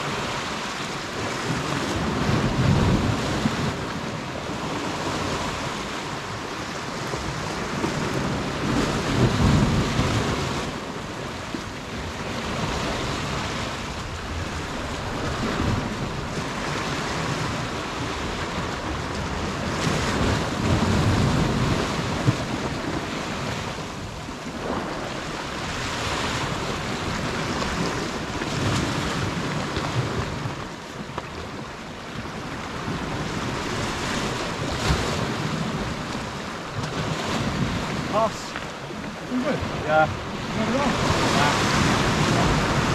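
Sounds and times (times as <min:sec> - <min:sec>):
sea washing against rocks: 0:00.0 - 0:42.9
wind buffeting microphone: 0:00.0 - 0:42.9.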